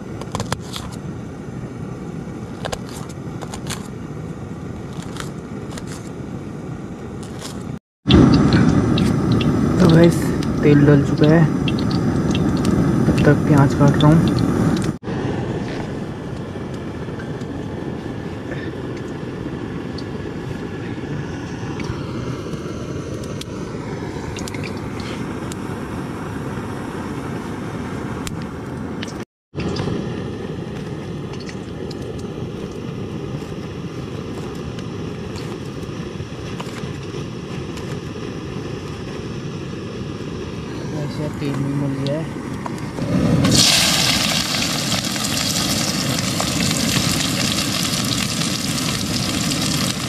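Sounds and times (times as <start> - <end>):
camping stove burner rushing: 2.2 - 26.3, 29.1 - 50.0.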